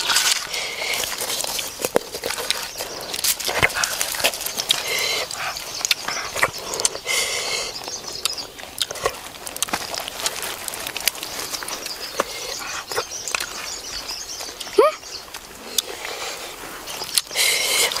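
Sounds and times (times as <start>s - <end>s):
leaves rustling: 0.0s - 18.0s.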